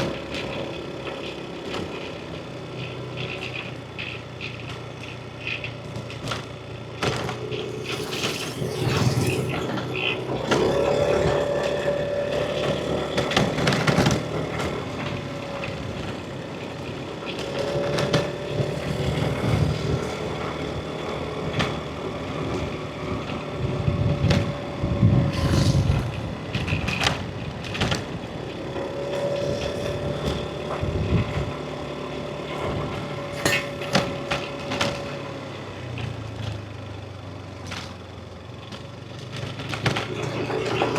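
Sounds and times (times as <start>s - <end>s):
engine whine: 0.0s - 40.9s
road and wind noise: 0.0s - 40.9s
scooter engine running: 0.0s - 40.9s.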